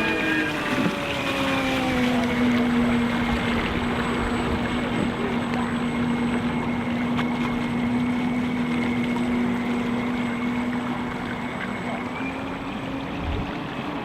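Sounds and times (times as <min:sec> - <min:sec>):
model boat motor whine: 0:00.0 - 0:14.0.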